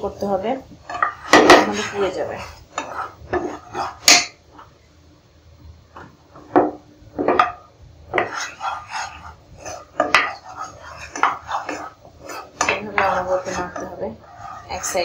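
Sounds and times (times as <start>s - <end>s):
wooden spatula scraping frying pan: 0.8s - 4.8s, 6.3s - 15.0s.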